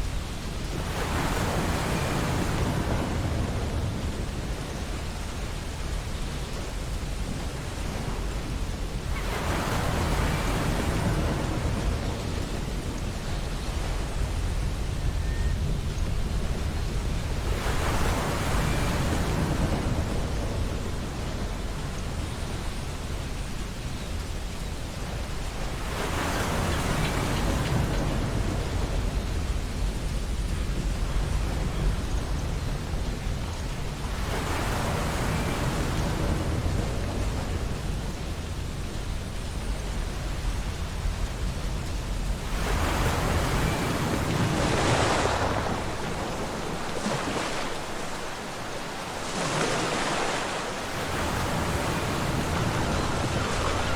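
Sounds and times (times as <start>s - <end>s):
low rumble of sea: 0.0s - 53.9s
waves breaking on beach: 0.0s - 53.9s.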